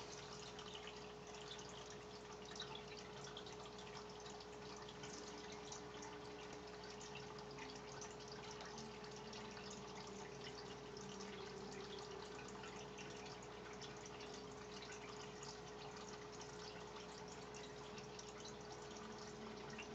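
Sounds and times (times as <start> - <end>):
aquarium hum: 0.0 - 19.9
water trickling and dripping: 0.0 - 19.9.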